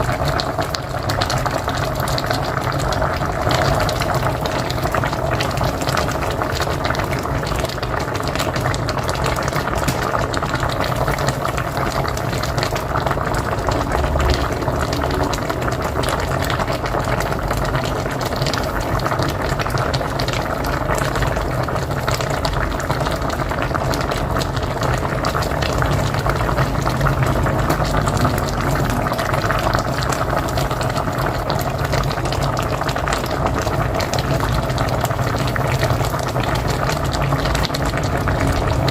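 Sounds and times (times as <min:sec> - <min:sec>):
pot boiling and bubbling: 0:00.0 - 0:38.9.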